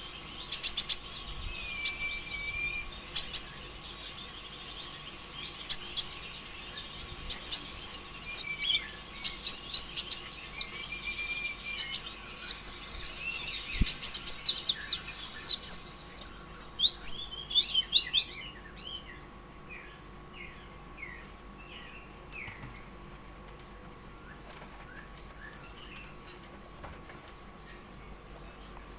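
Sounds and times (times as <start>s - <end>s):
sunbird chirping and trilling: 0.0s - 22.7s, 23.7s - 28.9s
faint steady hum: 0.0s - 28.9s.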